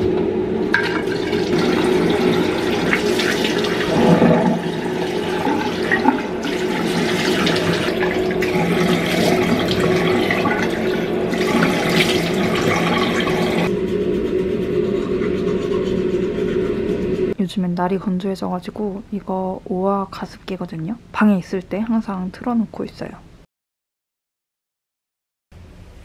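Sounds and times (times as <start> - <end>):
ventilation fan humming: 0.0 - 23.4.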